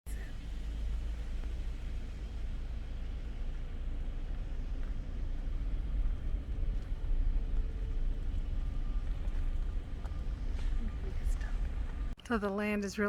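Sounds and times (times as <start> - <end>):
wind buffeting microphone: 0.2 - 12.2.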